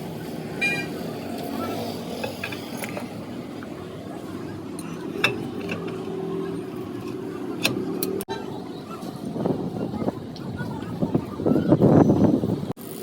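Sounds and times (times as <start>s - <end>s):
faint voices: 0.0s - 12.7s.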